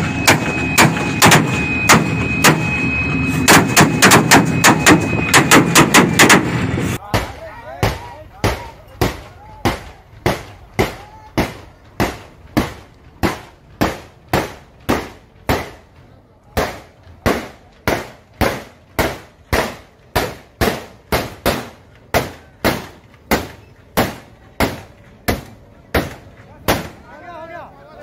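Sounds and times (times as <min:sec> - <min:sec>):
rail detonators banging: 0:00.0 - 0:28.0.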